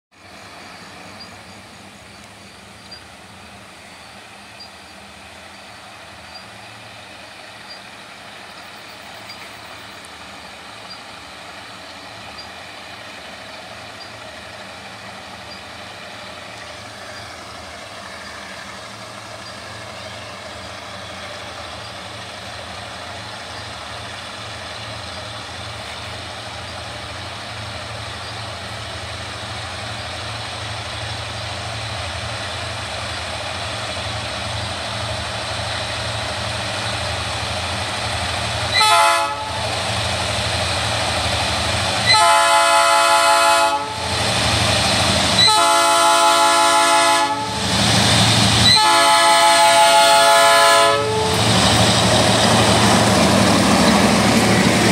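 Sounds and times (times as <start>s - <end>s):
diesel locomotive engine drone: 0.1s - 54.9s.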